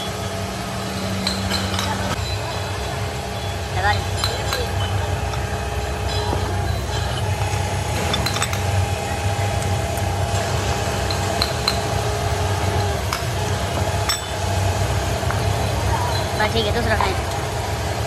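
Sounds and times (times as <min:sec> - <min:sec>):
low hum of workshop machinery: 0:00.0 - 0:18.0.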